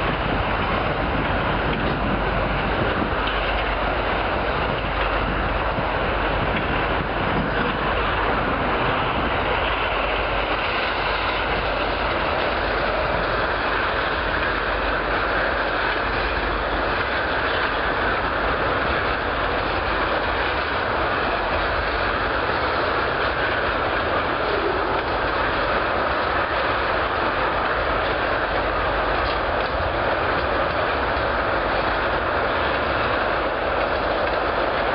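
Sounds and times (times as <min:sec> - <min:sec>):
freight train wheels on rails: 0:00.0 - 0:34.9.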